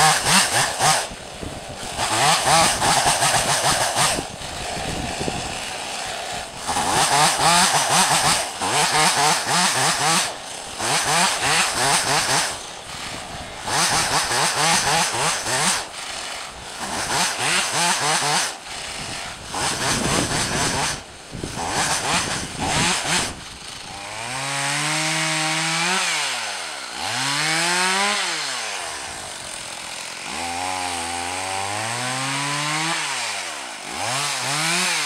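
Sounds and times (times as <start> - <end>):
chainsaw revving and idling: 0.0 - 35.0.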